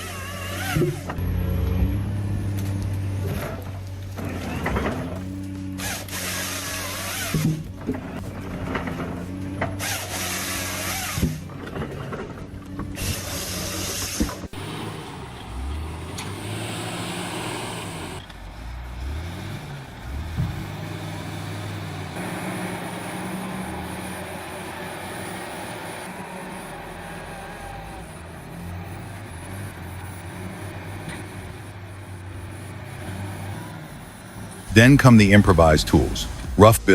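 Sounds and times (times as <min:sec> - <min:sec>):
bursts of loud noise: 0:00.0 - 0:36.9
heavy machinery engine humming: 0:00.0 - 0:36.9.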